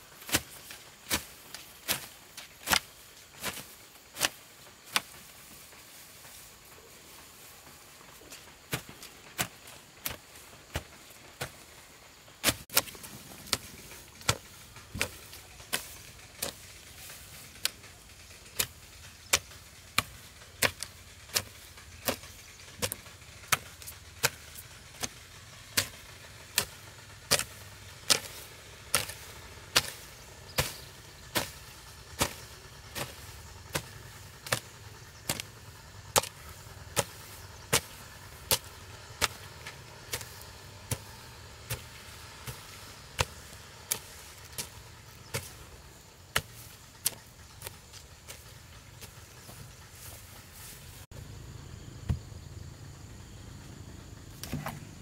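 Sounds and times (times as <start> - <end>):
hand hoe chopping into soil: 0.2 - 6.5, 8.3 - 11.7, 12.4 - 17.9, 18.5 - 50.8, 54.4 - 55.0.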